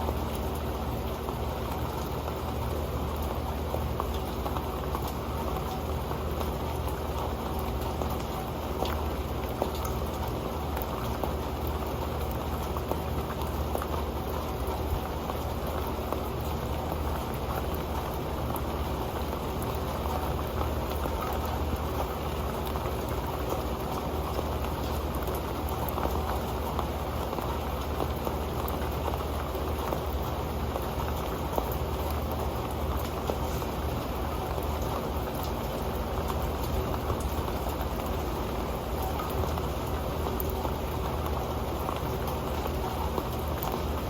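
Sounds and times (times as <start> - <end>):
rain on a metal pan: 0.0 - 44.0.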